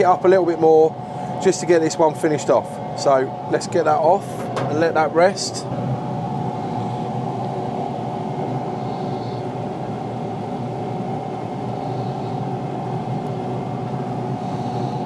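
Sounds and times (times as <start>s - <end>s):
grill fan humming: 0.0s - 15.0s.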